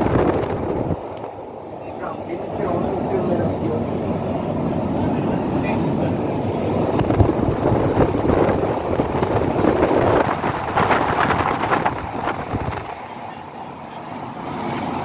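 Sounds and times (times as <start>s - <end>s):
wind buffeting microphone: 0.0s - 13.1s
train wheels rumbling: 0.0s - 13.7s.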